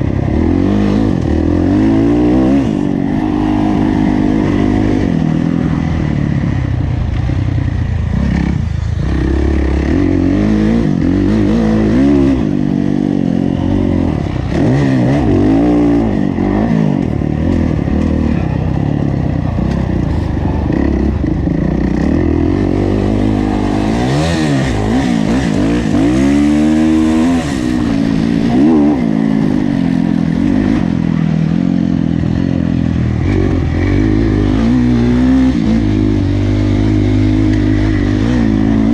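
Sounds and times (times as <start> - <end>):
motocross engine revving: 0.0 - 38.9.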